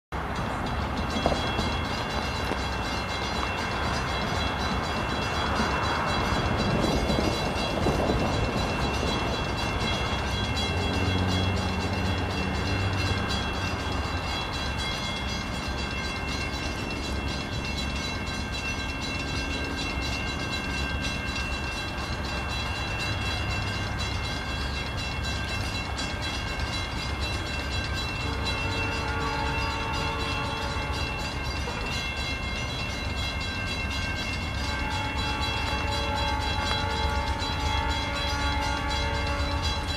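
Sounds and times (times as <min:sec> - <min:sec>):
crossing bell ringing: 0:00.1 - 0:39.9
locomotive engine rumble: 0:00.1 - 0:39.9.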